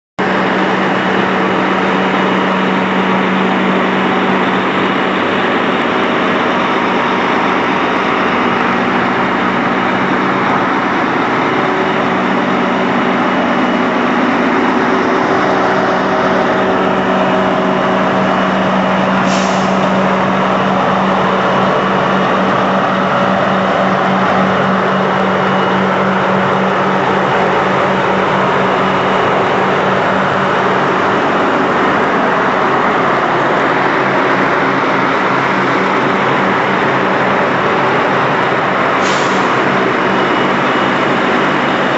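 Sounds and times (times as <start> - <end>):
diesel coach engines droning: 0.2 - 41.9.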